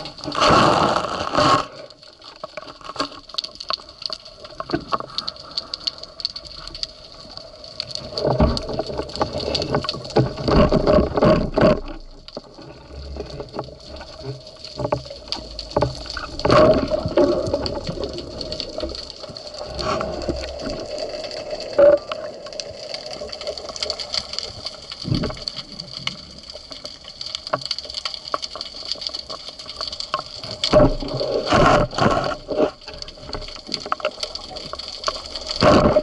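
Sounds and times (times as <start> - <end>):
water sloshing and gurgling: 0.0 - 36.0.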